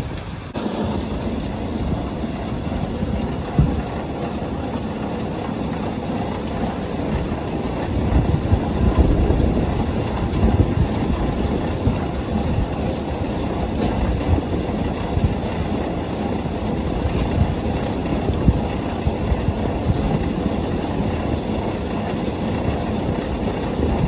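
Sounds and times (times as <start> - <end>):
hammermill rattling rumble: 0.0 - 24.0.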